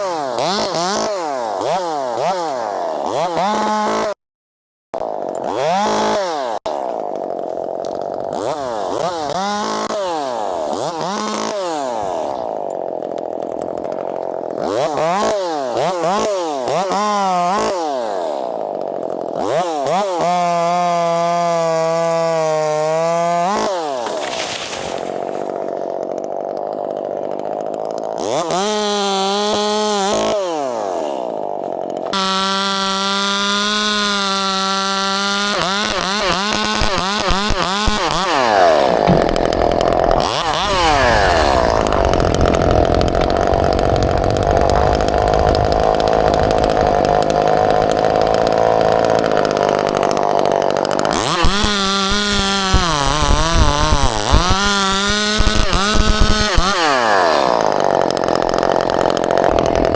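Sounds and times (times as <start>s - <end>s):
chainsaw revving and cutting wood: 0.0s - 4.2s, 5.0s - 59.9s.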